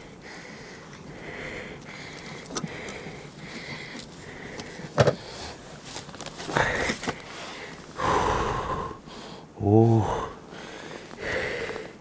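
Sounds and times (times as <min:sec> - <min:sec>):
breathing and sniffing: 0:00.1 - 0:12.0.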